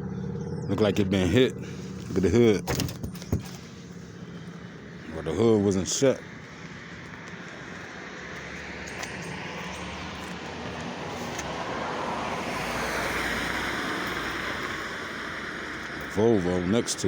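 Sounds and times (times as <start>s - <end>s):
vehicle passing: 0.0s - 2.6s, 3.2s - 17.0s.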